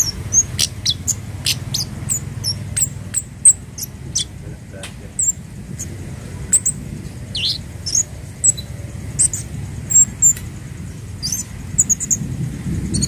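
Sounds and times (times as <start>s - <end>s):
bird high-pitched chirps: 0.0s - 4.4s, 5.1s - 10.4s, 11.1s - 13.0s
low rumble: 0.0s - 13.0s.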